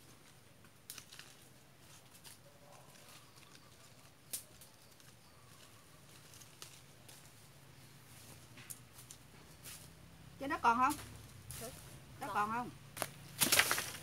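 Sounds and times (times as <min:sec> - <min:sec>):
fruit and leafy twigs rustling: 0:00.0 - 0:14.0.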